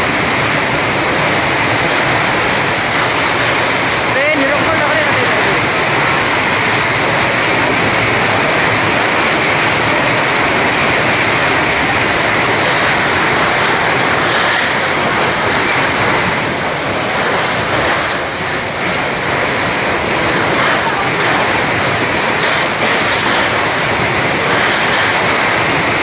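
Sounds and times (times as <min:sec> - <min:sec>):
goods train rushing past: 0:00.0 - 0:26.0.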